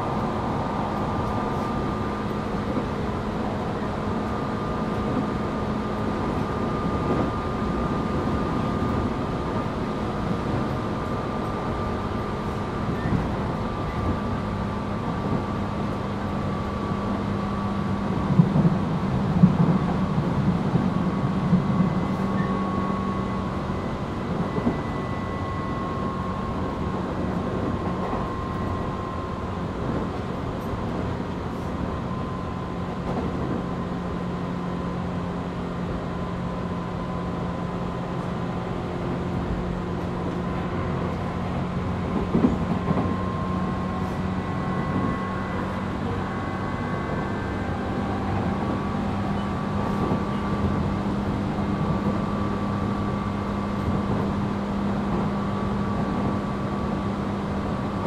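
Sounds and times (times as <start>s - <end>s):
train clattering: 0.0s - 35.8s, 36.4s - 58.0s
train wheels rumbling on rail: 0.0s - 58.0s.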